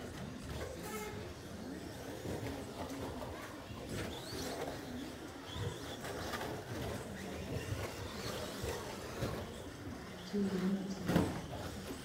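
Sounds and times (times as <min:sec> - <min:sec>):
low background murmur: 0:00.0 - 0:12.0.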